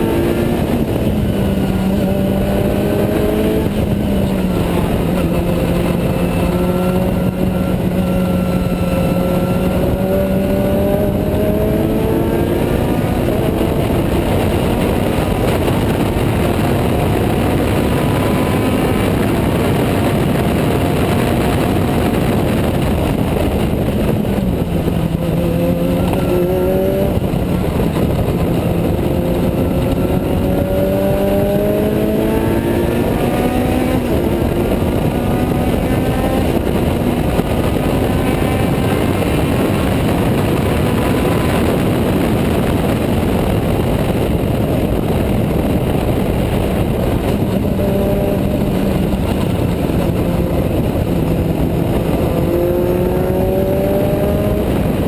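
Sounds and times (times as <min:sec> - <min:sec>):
race car engine: 0:00.0 - 0:55.0
rush of wind and road noise: 0:00.0 - 0:55.0.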